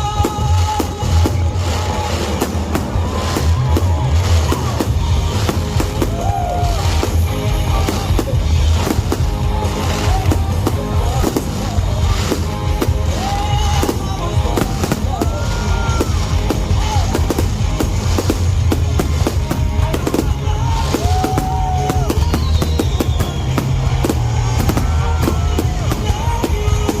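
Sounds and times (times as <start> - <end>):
fireworks bangs and crackles: 0.0 - 27.0
loud music with strong bass: 0.0 - 27.0.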